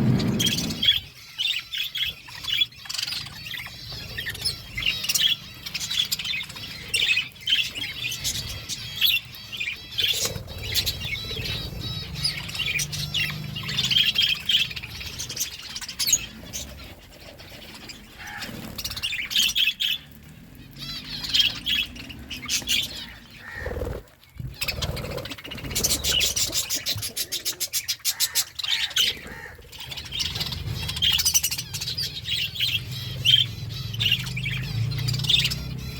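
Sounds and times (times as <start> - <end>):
budgerigars chirping and chattering: 0.0 - 35.9.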